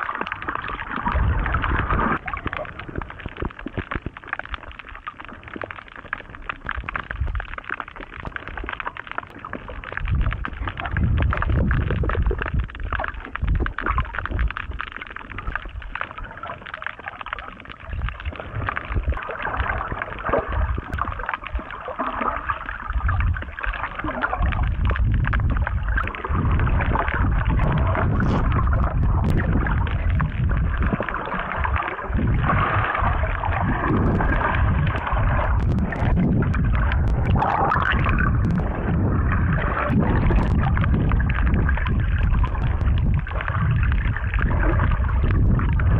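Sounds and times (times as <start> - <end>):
underwater water churning and gurgling: 0.0 - 45.9.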